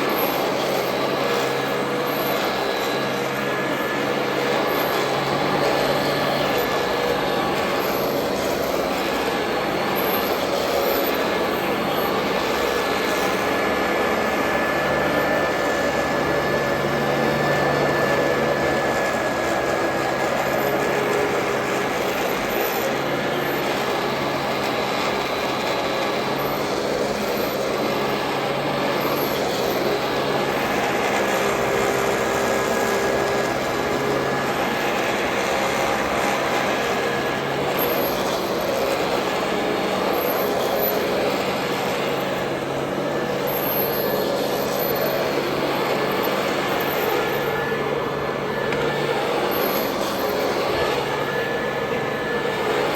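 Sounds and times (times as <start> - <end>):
upright vacuum cleaner running: 0.0 - 52.9.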